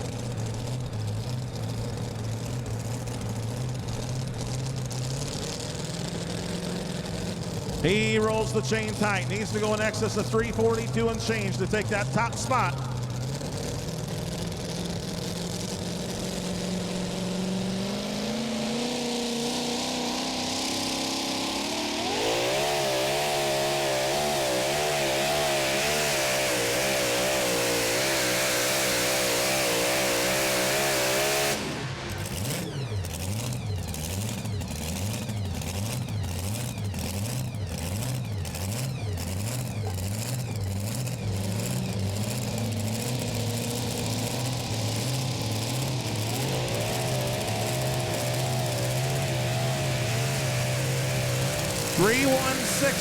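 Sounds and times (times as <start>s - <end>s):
pulling truck engine revving: 0.0s - 53.0s.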